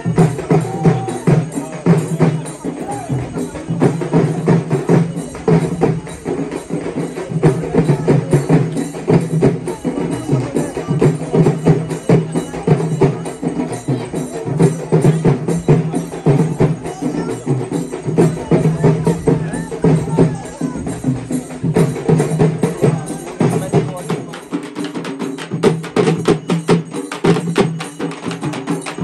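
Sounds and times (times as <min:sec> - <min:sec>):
drums in fast rhythm: 0:00.0 - 0:29.0.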